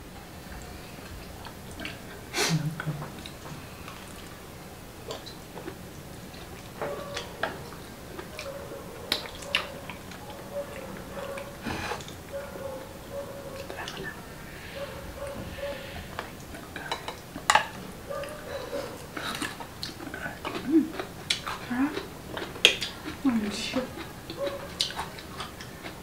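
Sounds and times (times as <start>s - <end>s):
wet chewing: 5.0s - 26.0s.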